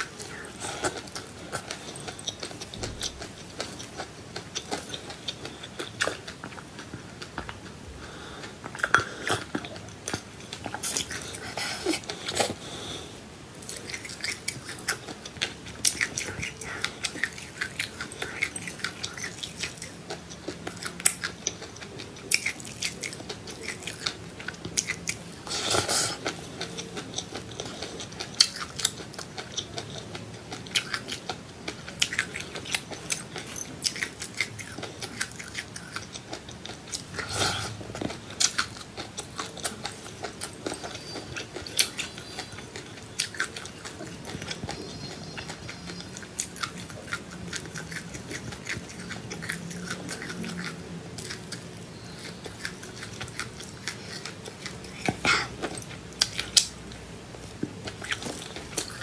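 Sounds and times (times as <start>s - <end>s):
chewing and crunching seeds: 0.0s - 59.0s.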